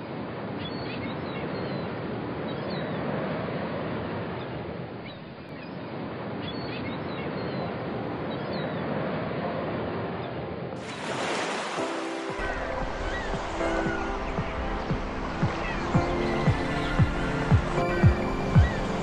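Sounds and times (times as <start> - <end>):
sea surf on a beach: 0.0 - 19.0.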